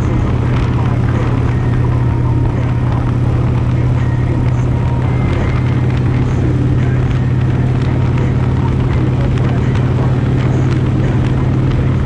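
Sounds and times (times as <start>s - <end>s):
low mechanical hum: 0.0s - 12.0s
noisy rumble: 0.0s - 12.0s.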